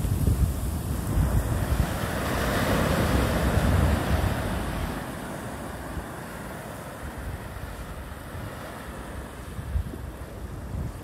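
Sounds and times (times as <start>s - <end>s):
wave breaking and washing in: 0.0s - 11.0s
wind rumble on microphone: 0.0s - 11.0s.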